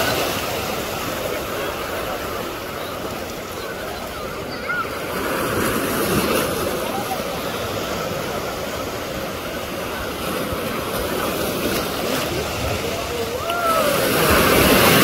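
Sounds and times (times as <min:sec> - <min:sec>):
small waves breaking on shore: 0:00.0 - 0:15.0.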